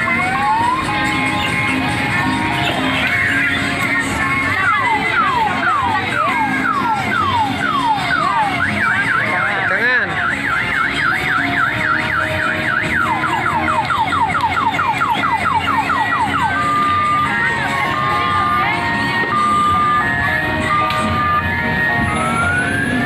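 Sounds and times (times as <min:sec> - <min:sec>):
electronic siren sweeps: 0:00.0 - 0:23.0.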